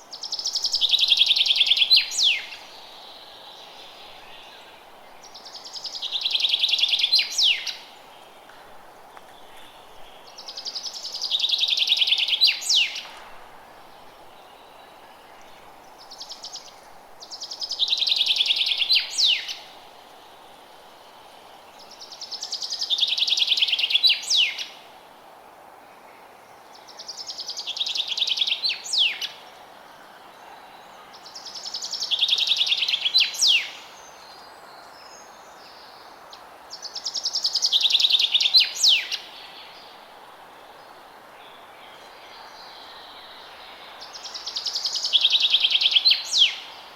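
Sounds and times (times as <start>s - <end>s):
faint background hiss: 0.0s - 46.9s.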